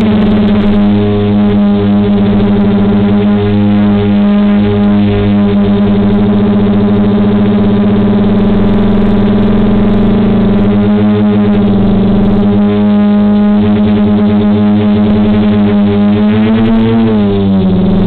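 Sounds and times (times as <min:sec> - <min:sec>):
quadcopter motors humming: 0:00.0 - 0:18.0.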